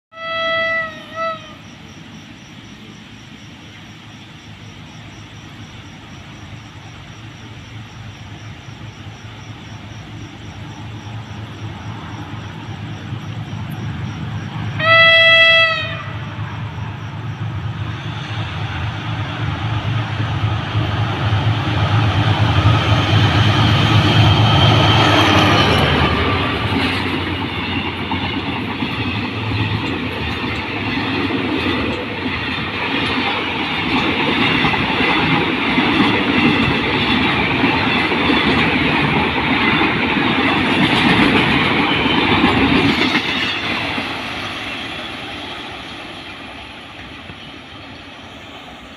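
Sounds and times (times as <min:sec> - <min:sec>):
train low drone: 0:00.1 - 0:48.9
train wheels clattering on rails: 0:05.4 - 0:48.9.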